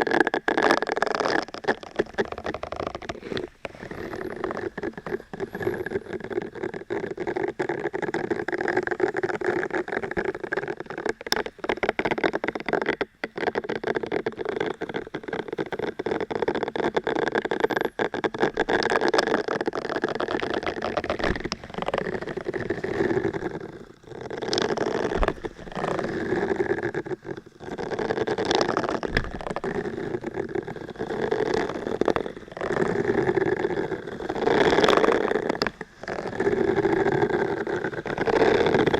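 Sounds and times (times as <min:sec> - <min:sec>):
scratching and rubbing on microphone: 0:00.0 - 0:38.9.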